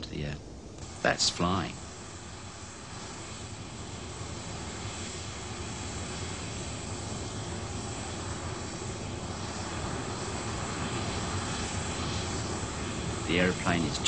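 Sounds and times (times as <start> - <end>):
jet aircraft engine rushing: 0.0 - 14.0.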